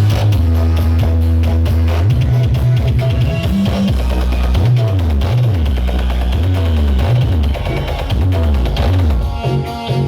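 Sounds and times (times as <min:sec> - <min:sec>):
deep sliding bass line: 0:00.0 - 0:10.0
drums: 0:00.0 - 0:10.0
loud music over sound system: 0:00.0 - 0:10.0.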